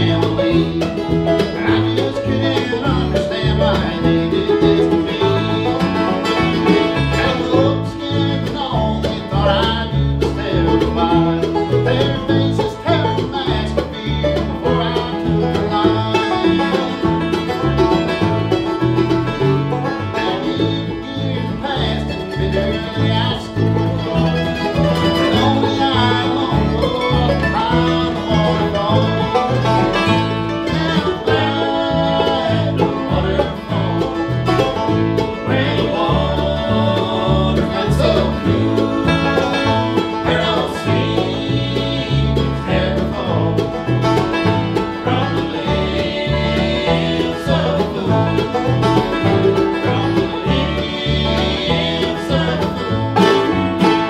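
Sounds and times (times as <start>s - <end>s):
acoustic guitar: 0.0s - 54.0s
banjo: 0.0s - 54.0s
mandolin: 0.0s - 54.0s
resonator guitar: 0.0s - 54.0s
upright bass plucking: 0.0s - 54.0s.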